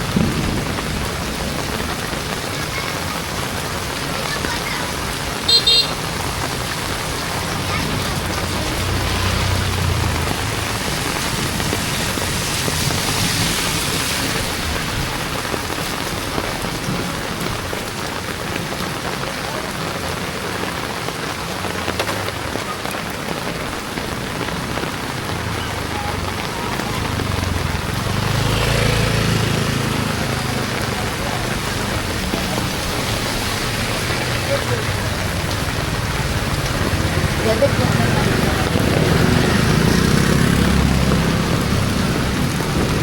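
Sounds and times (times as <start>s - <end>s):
heavy rain on street: 0.0s - 43.0s.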